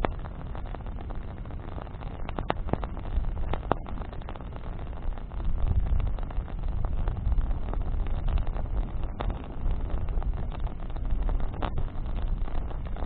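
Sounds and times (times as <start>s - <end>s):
wind rumbling on microphone: 0.0s - 13.0s
wood fire crackling and popping: 0.0s - 13.0s.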